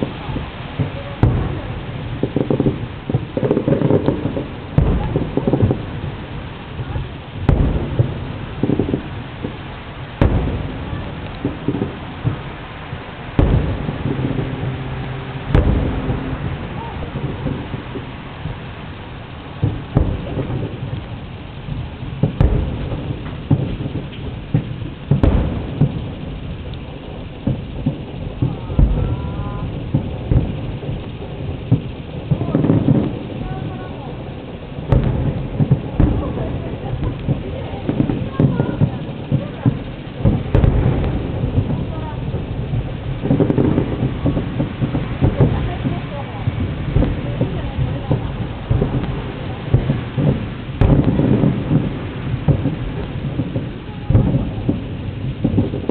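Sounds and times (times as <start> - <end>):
fireworks booming: 0.0 - 55.9
fireworks pops and rumbling: 0.0 - 55.9.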